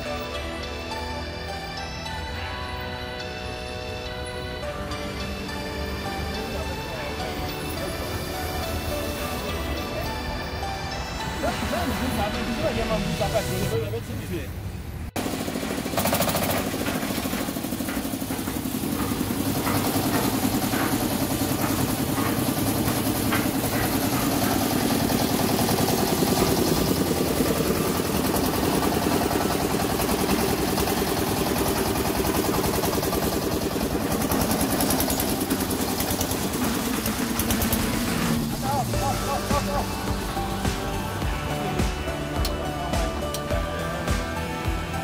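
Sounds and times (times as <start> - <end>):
concrete mixer engine running: 0.0 - 45.0.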